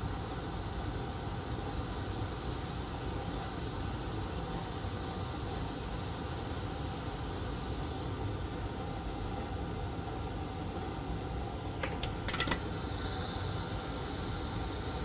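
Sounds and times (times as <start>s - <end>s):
hot-air station hissing: 0.0s - 15.0s.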